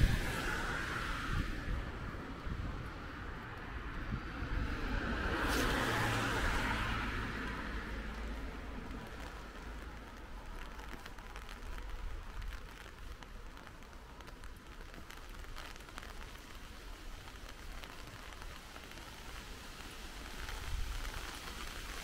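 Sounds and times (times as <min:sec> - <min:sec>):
rain drops ticking: 0:00.0 - 0:22.0.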